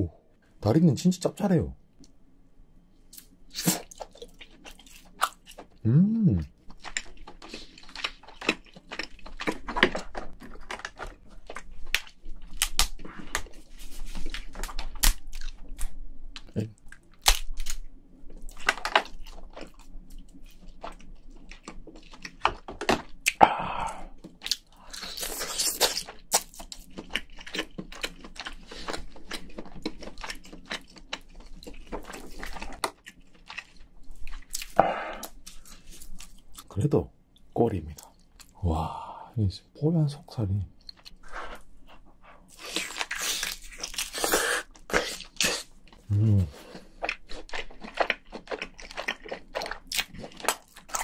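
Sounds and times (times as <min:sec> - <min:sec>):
chewing: 0:03.2 - 0:05.8, 0:06.4 - 0:36.7, 0:40.8 - 0:51.0.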